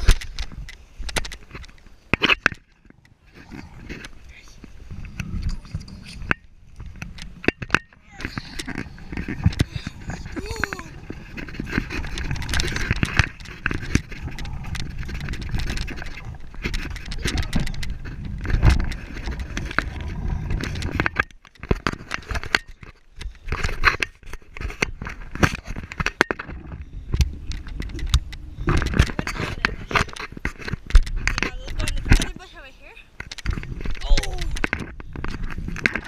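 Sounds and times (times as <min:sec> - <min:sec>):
bicycle rattling over rough ground: 0:00.0 - 0:36.0.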